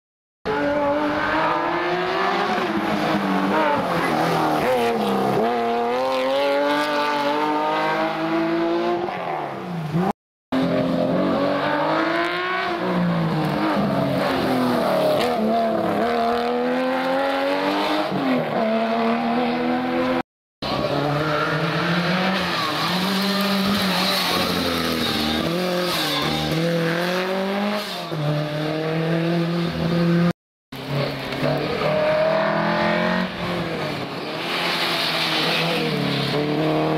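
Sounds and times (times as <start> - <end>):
rally car engines revving: 0.5 - 36.9.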